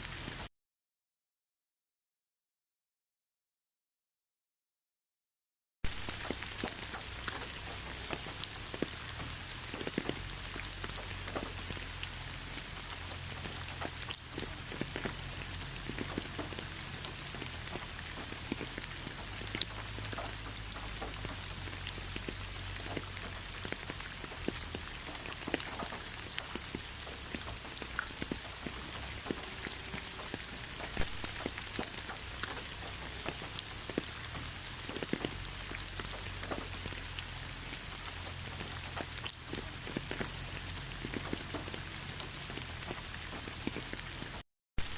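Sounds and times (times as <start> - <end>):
rain drops ticking on a surface: 0.0 - 0.5, 5.9 - 44.9.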